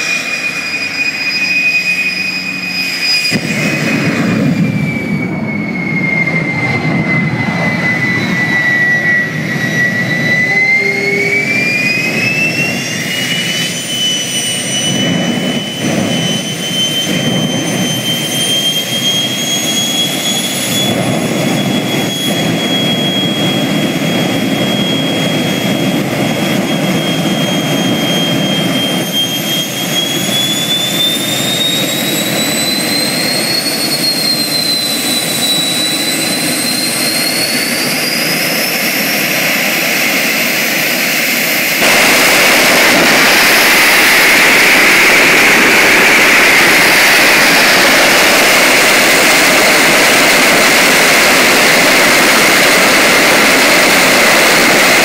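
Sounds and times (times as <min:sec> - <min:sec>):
gas turbine engine whine: 0:00.0 - 0:55.0
loud jet roar: 0:00.0 - 0:55.0.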